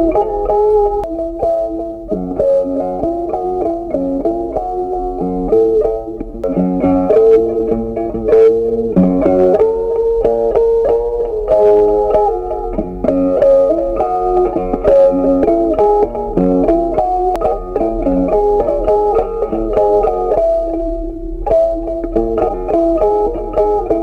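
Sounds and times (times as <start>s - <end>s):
plucked guitar melody: 0.0s - 24.0s.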